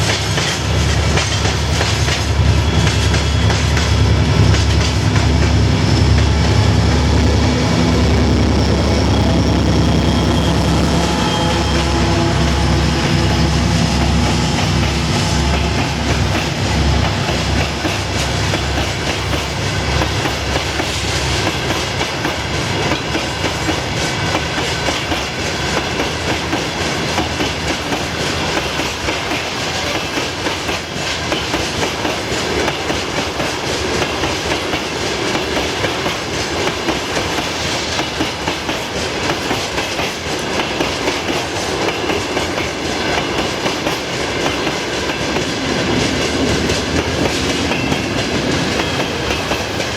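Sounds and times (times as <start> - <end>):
train wheels clattering over rail joints: 0.0 - 7.9, 12.1 - 49.9
diesel locomotive engine drone: 0.0 - 49.9.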